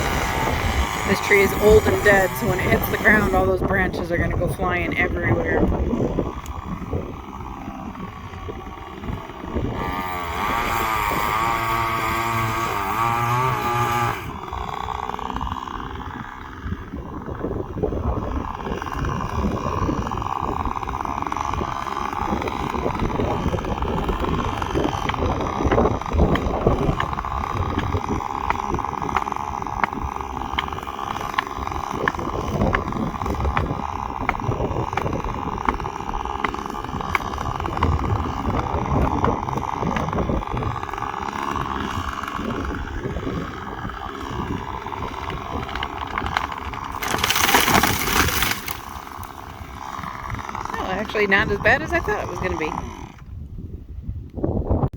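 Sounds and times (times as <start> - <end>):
chainsaw cutting wood: 0.0 - 53.7.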